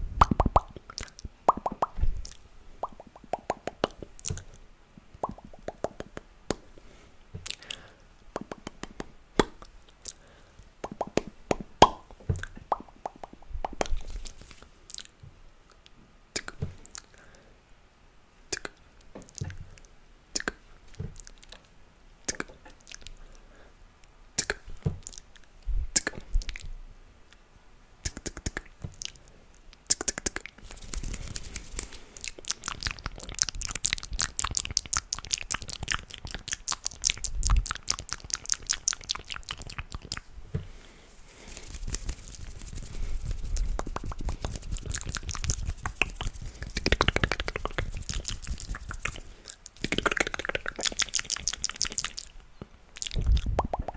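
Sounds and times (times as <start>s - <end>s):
mouth clicks and pops: 0.2s - 6.7s, 7.4s - 10.2s, 10.8s - 15.1s, 15.7s - 17.2s, 18.5s - 19.6s, 20.3s - 21.6s, 22.2s - 23.2s, 24.4s - 26.7s, 28.0s - 40.3s, 41.4s - 53.9s.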